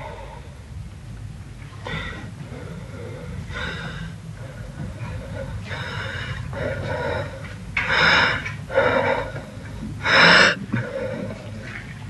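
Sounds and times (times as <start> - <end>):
man gasping breaths: 1.9 - 11.6.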